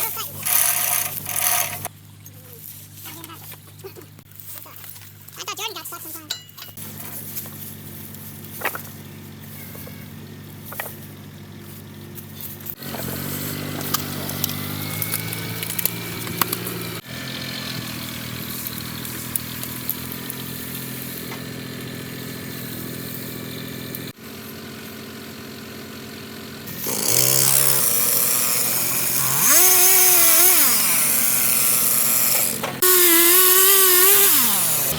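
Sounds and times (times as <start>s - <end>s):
engine revving: 6.8s - 34.9s
low engine hum: 6.8s - 34.9s.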